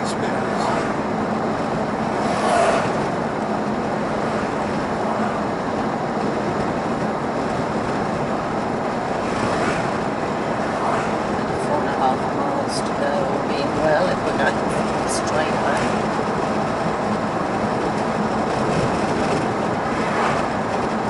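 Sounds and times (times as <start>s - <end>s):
car engine and tyre noise: 0.0s - 21.0s.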